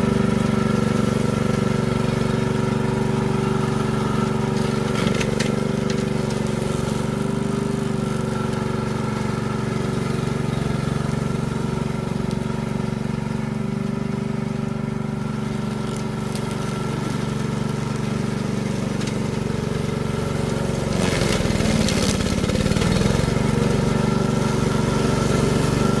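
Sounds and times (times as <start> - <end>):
brush cutter running: 0.0 - 26.0.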